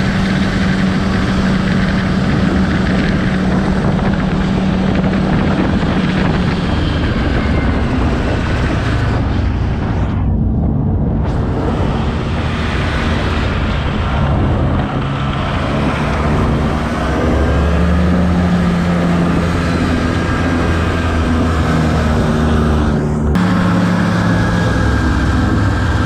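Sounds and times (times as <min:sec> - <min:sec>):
snowmobile engine running: 0:00.0 - 0:26.0.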